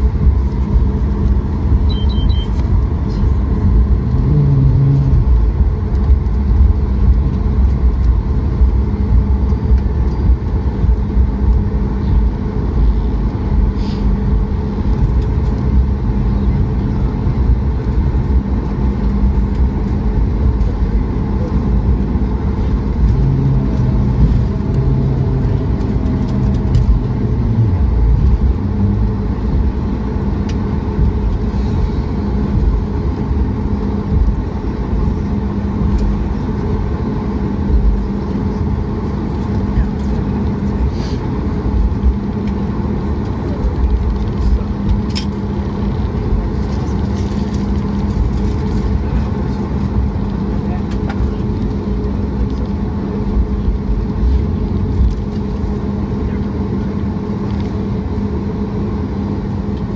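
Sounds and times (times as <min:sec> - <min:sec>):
aircraft cabin low rumble: 0:00.0 - 0:59.9.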